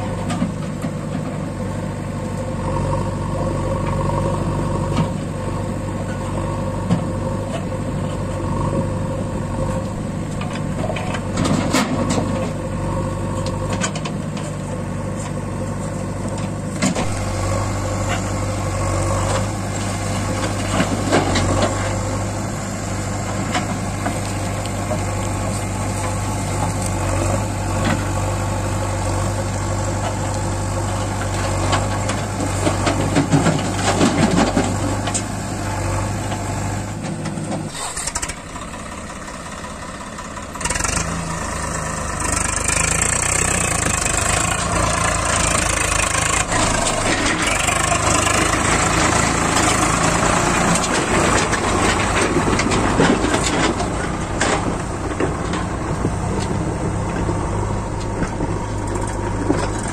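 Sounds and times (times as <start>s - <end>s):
backhoe loader engine idling: 0.0s - 59.9s
tractor diesel engine idling: 0.0s - 59.9s.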